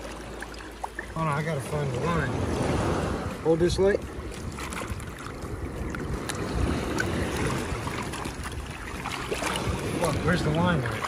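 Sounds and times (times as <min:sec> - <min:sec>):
seawater splashing and sloshing: 0:00.0 - 0:11.0.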